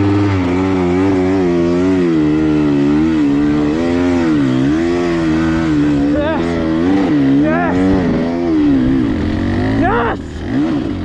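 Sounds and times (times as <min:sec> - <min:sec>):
dirt bike engine labouring: 0:00.0 - 0:11.0.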